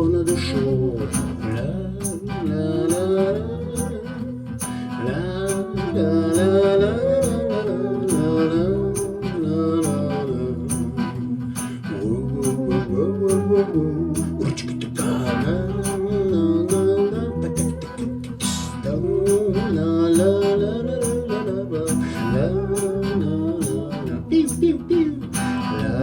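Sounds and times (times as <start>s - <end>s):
bass: 0.0s - 26.0s
guitar: 0.0s - 26.0s.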